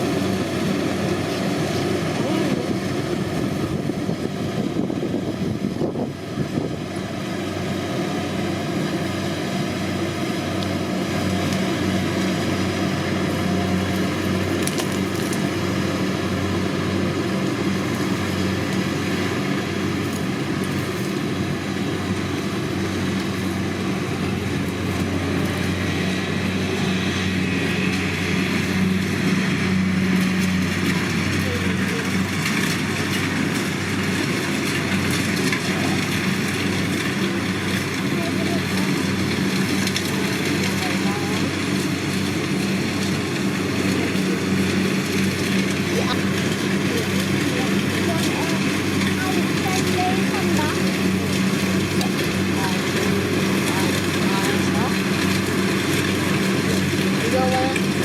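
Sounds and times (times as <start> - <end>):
combine harvester engine hum: 0.0 - 58.0.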